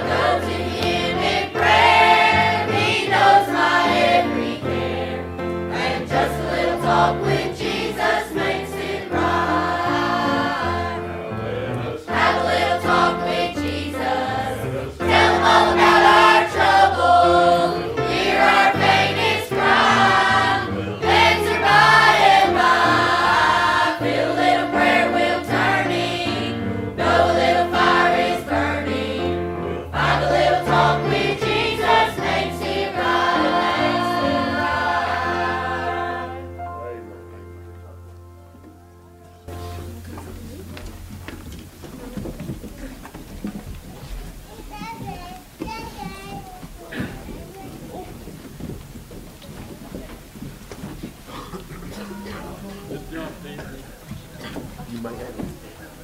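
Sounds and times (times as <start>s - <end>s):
congregation singing a hymn: 0.0s - 38.8s, 39.4s - 40.7s, 50.8s - 56.0s
instrumental accompaniment: 0.0s - 52.7s.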